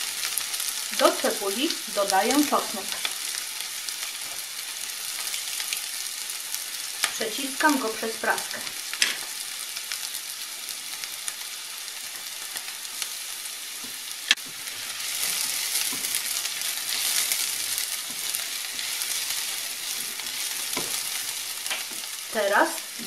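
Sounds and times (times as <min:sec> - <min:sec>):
onion and garlic sizzling in oil: 0:00.0 - 0:23.0.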